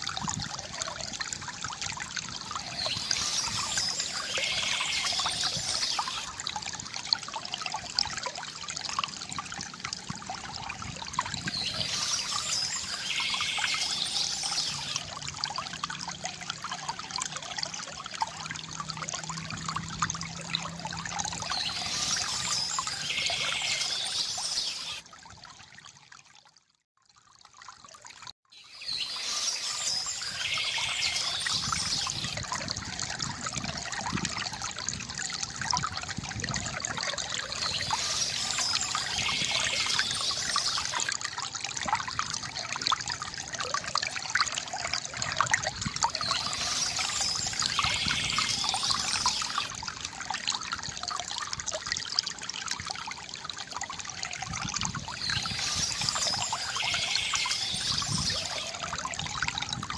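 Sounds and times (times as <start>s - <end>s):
water trickling from bamboo fountain: 0.0s - 59.9s.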